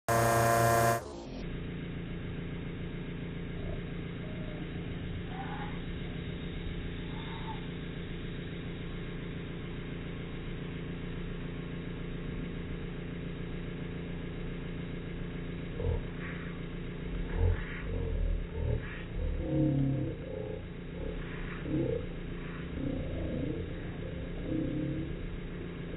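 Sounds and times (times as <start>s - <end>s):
espresso machine pump drone: 0.0s - 25.9s.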